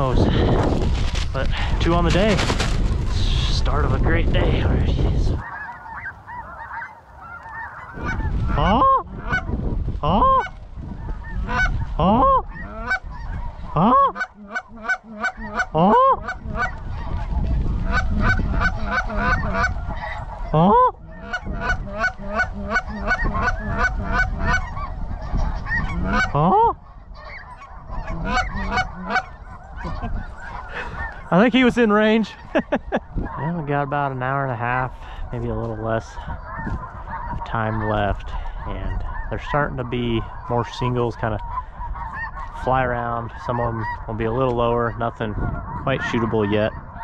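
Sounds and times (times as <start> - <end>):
geese honking: 0.0 - 47.0
geese yelping: 0.0 - 47.0.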